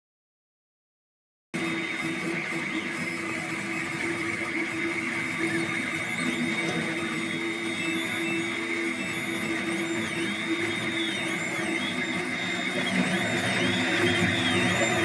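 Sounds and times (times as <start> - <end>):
stepper motors whining: 1.6 - 15.0.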